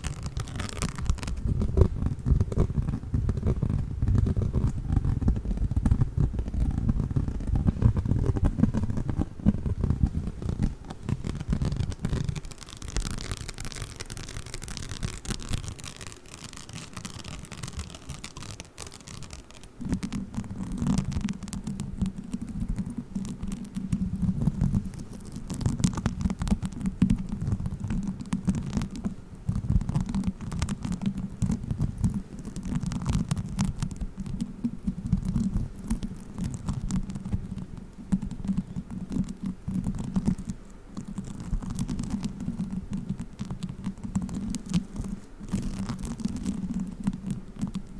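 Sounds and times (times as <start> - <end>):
foam clay crackling and squishing: 0.0 - 47.9.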